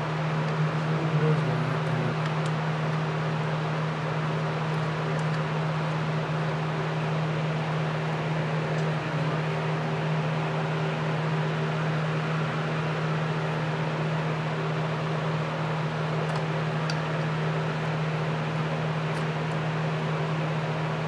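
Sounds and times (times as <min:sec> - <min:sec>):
electric motor hum: 0:00.0 - 0:21.0.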